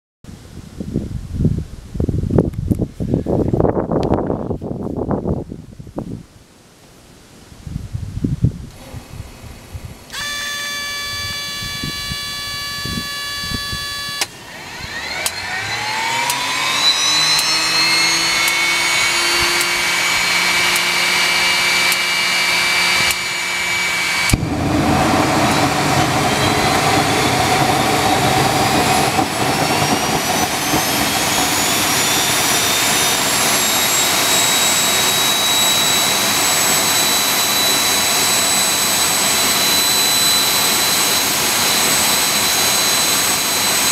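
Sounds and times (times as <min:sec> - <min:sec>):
jet engine roar: 0:08.7 - 0:43.9
turbine whine spooling up: 0:08.7 - 0:43.9.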